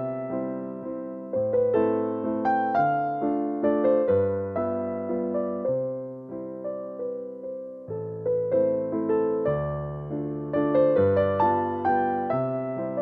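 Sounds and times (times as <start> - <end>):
gentle keyboard music: 0.0 - 13.0.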